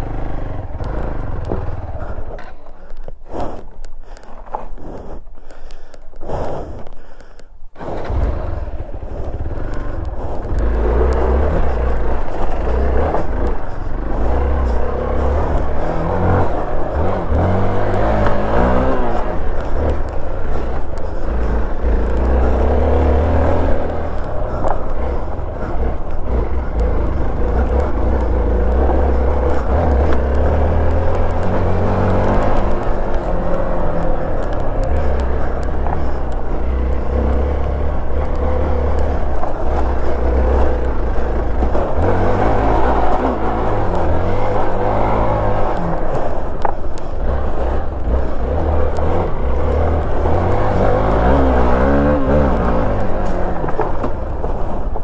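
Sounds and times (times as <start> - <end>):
motorcycle engine under load: 0.0 - 4.8, 6.9 - 55.0.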